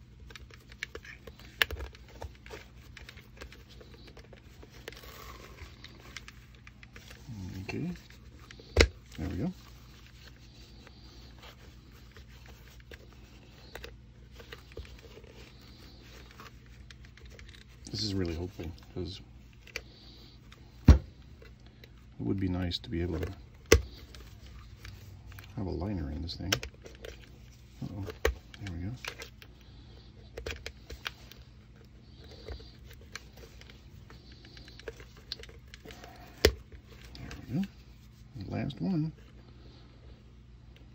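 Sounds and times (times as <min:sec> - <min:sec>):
webbing rustling: 0:00.0 - 0:40.0.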